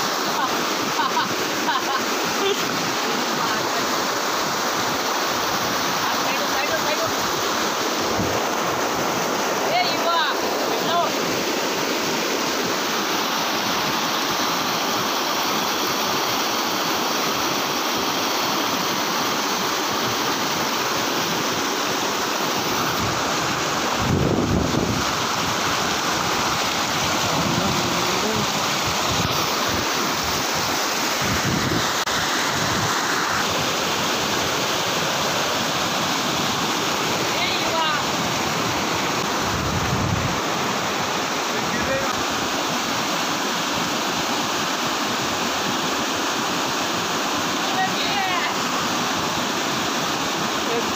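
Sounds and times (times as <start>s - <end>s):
stream rushing over rocks: 0.0s - 50.9s.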